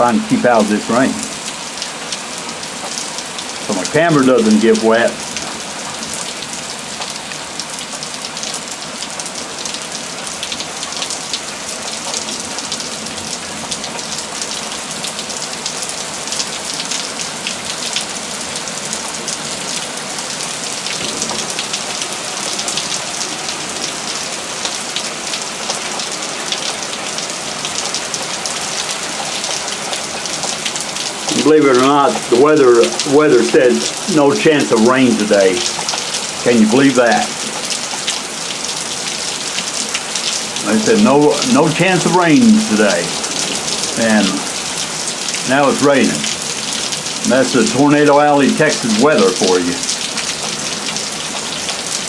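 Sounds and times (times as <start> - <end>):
heavy rain falling: 0.0 - 52.0
raindrops pattering on a surface: 0.0 - 52.0.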